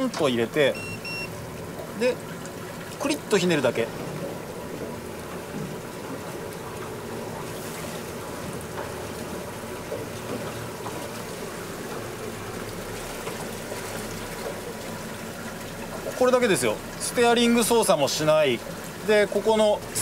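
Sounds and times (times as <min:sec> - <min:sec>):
faint low engine hum: 0:00.0 - 0:20.0
water rushing along boat hull: 0:00.0 - 0:20.0.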